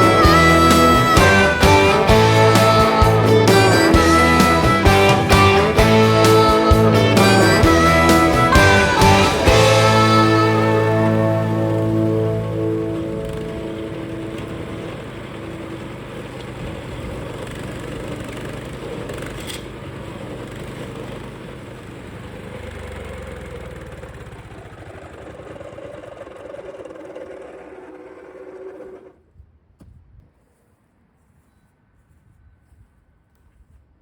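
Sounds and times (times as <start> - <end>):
stump grinder engine running: 0.0 - 29.2.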